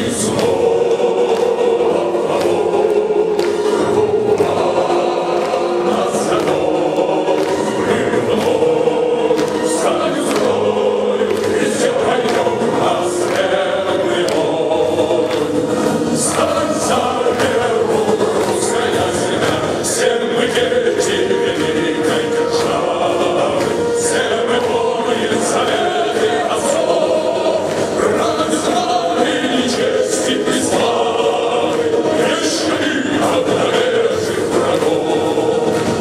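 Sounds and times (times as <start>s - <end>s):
audience clapping along: 0.0s - 36.0s
choir and soloists singing: 0.0s - 36.0s.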